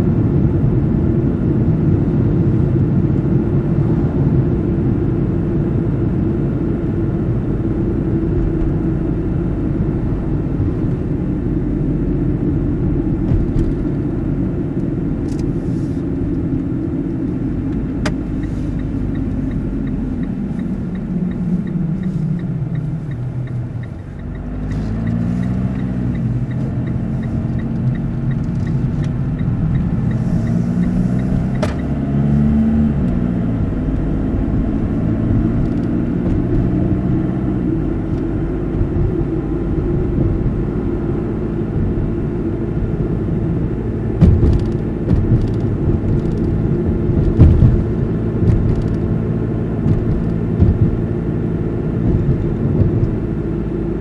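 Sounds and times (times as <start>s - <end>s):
car engine and road noise: 0.0s - 54.0s
turn signal ticking: 8.0s - 54.0s.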